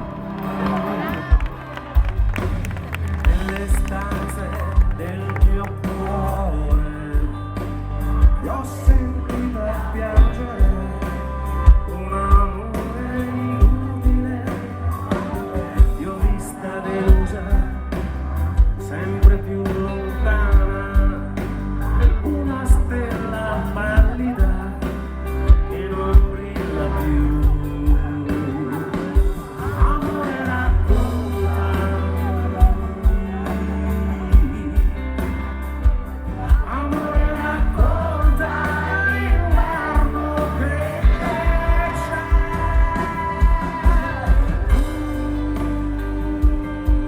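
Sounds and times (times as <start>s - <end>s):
pop-rock band playing: 0.0s - 47.0s
steady drum beat: 0.0s - 47.0s.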